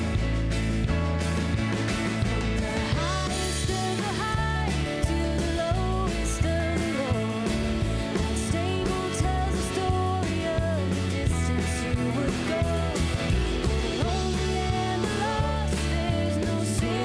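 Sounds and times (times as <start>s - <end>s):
bass: 0.0s - 17.0s
drums with cymbals: 0.0s - 17.0s
guitar: 0.0s - 17.0s
person singing: 2.6s - 17.0s.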